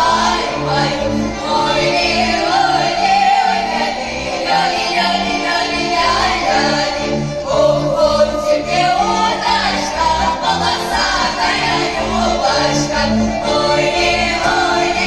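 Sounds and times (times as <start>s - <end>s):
folk string orchestra bass: 0.0s - 15.0s
women singing folk song together: 0.0s - 15.0s.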